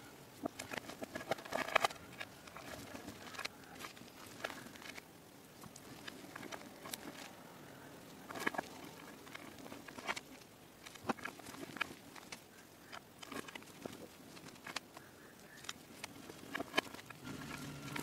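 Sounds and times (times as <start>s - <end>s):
crumbs pattering: 0.4s - 18.0s.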